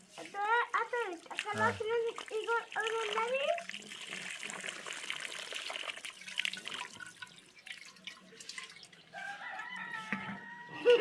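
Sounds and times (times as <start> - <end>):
water trickling and dripping: 0.0 - 10.5.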